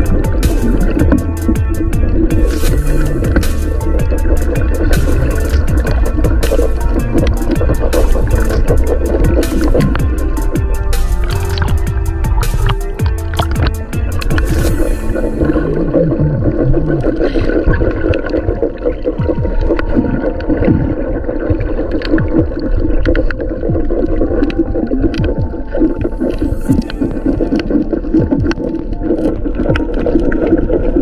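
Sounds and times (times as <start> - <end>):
gurgling bubbles: 0.0 - 31.0
muffled underwater rumble: 0.0 - 31.0
sharp underwater clicks: 0.0 - 31.0.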